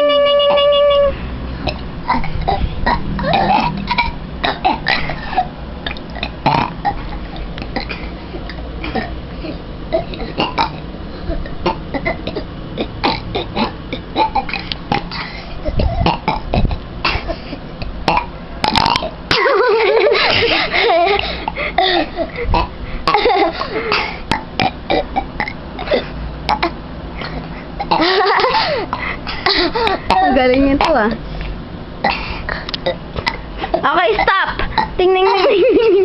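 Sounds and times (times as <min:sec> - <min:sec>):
children burping: 0:01.0 - 0:05.6, 0:06.2 - 0:19.5, 0:21.1 - 0:31.2, 0:32.0 - 0:35.5.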